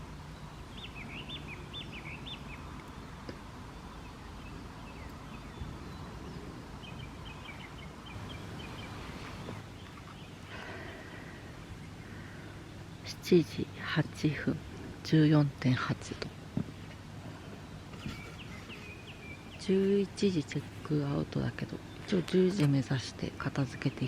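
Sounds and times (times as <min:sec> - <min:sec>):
outdoor background noise: 0:00.0 - 0:24.0
songbirds calling: 0:00.0 - 0:24.0.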